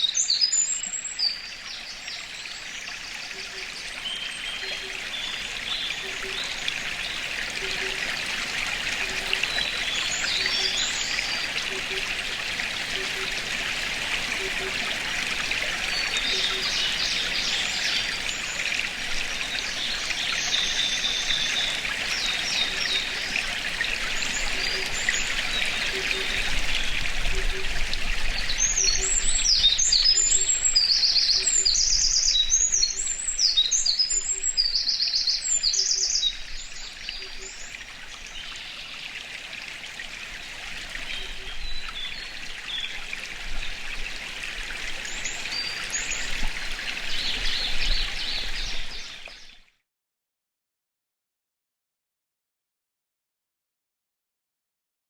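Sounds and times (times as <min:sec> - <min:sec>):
stream running: 0:00.0 - 0:49.8.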